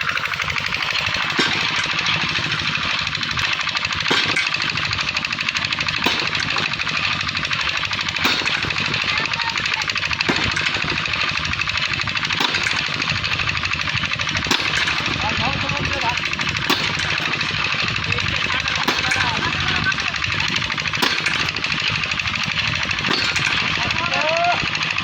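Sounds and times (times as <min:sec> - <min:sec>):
pneumatic tool hammering: 0:00.0 - 0:25.0.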